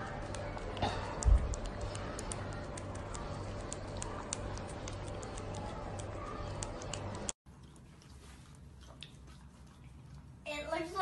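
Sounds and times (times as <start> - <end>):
kitten licking with quick clicks: 0.1 - 10.3.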